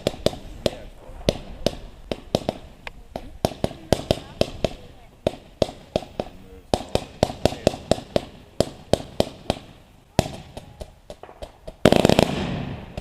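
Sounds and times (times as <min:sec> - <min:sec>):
dense firework crackling: 0:00.0 - 0:13.0
firecracker bangs: 0:00.0 - 0:13.0.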